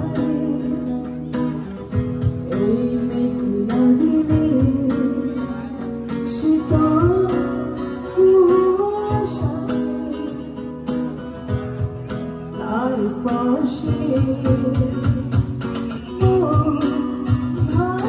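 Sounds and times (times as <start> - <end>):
woman singing: 0.0 - 11.0, 12.5 - 18.0
strummed acoustic guitar: 0.0 - 18.0.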